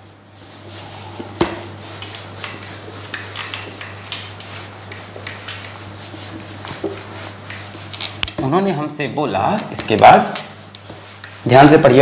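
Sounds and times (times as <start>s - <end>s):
whiteboard being wiped: 0.0s - 8.7s, 9.4s - 12.0s.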